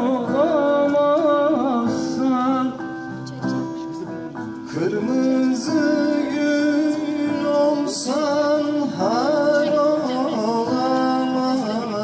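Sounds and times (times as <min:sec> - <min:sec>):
man singing folk song: 0:00.0 - 0:02.8, 0:04.6 - 0:12.0.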